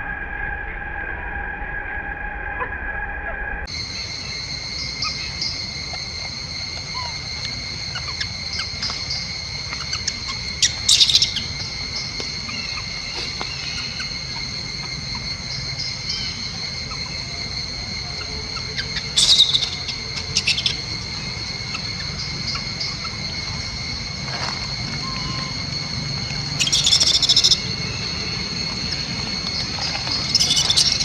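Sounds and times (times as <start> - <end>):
insects droning: 3.6 - 31.0
shrill animal calls: 3.8 - 31.0.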